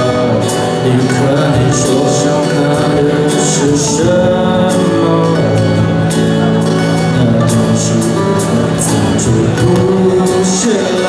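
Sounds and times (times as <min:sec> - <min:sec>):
man singing: 0:00.0 - 0:11.0
rock band playing: 0:00.0 - 0:11.0.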